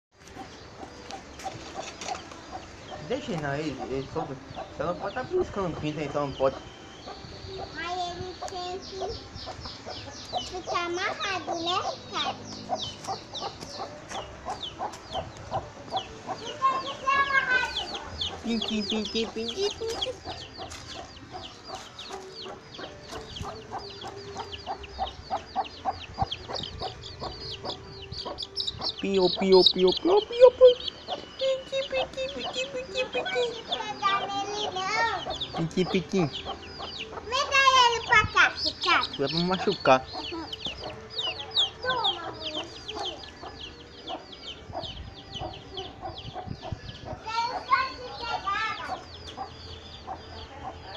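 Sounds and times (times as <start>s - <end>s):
baby chicks peeping: 0.1s - 50.9s.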